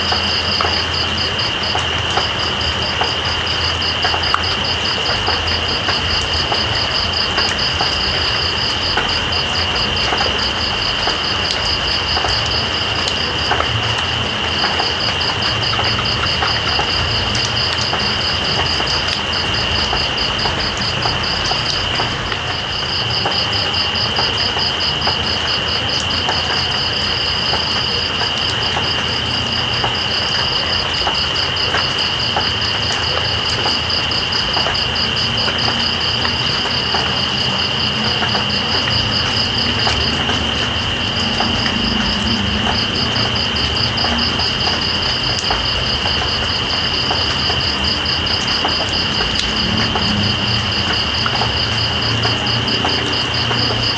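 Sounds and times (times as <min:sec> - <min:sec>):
rain hiss: 0:00.0 - 0:53.9
water drips: 0:00.0 - 0:53.9.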